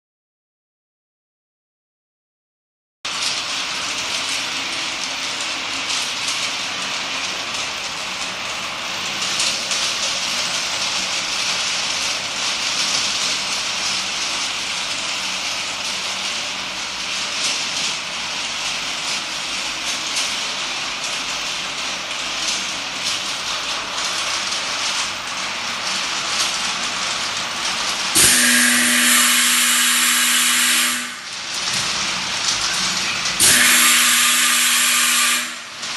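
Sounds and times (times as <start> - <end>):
washing machine hissing: 3.1 - 35.9
steady machine hum: 3.5 - 35.9.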